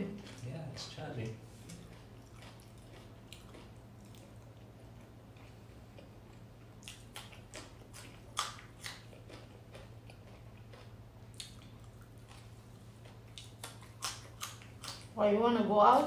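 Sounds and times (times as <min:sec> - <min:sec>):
low steady hum: 0:00.0 - 0:16.0
chewing and lip smacks: 0:00.1 - 0:00.5, 0:01.2 - 0:15.2.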